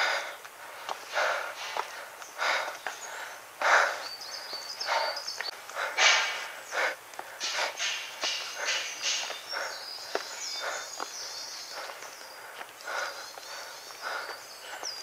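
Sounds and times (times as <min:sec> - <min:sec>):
heavy breathing: 0:00.0 - 0:15.0
shoes scuffing on stone steps: 0:00.4 - 0:03.2, 0:04.9 - 0:15.0.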